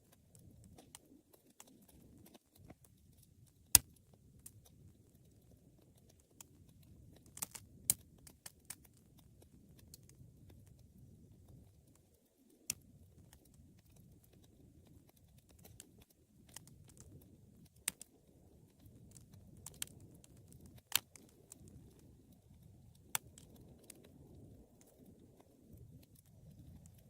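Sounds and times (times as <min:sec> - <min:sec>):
fire burning in a fireplace: 0:00.0 - 0:27.0
wood crackling and popping: 0:00.0 - 0:27.0.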